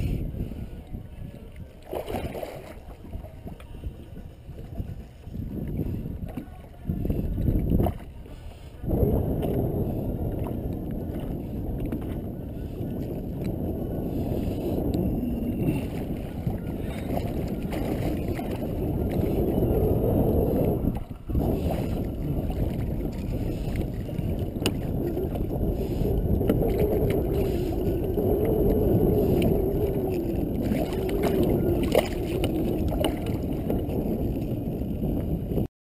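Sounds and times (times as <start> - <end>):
water around kayak: 0.0 - 35.7
wind: 0.0 - 35.7.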